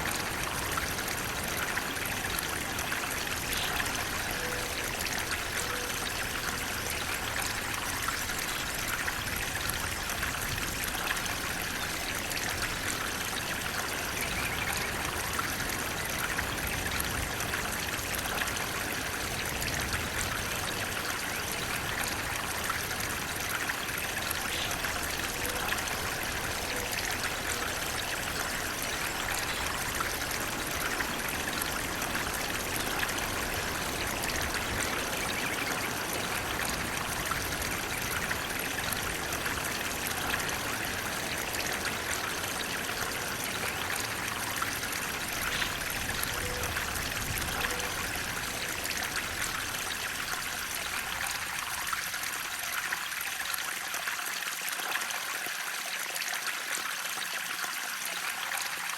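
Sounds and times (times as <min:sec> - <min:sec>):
water flowing and trickling: 0:00.0 - 0:58.9.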